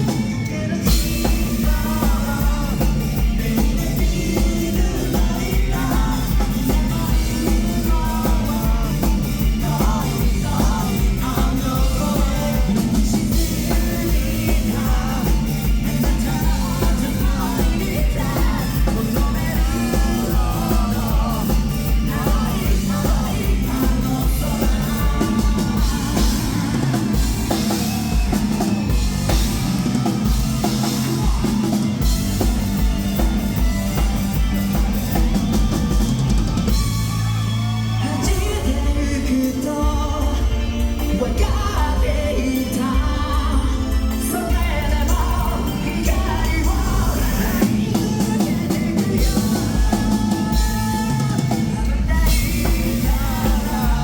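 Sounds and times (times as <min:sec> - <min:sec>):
lead singer singing: 0:00.0 - 0:54.0
live rock band playing: 0:00.0 - 0:54.0
pounding drum kit: 0:00.0 - 0:54.0.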